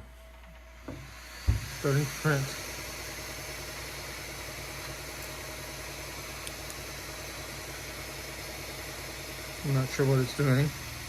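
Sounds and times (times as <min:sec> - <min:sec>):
printer hiss: 0:00.9 - 0:11.0.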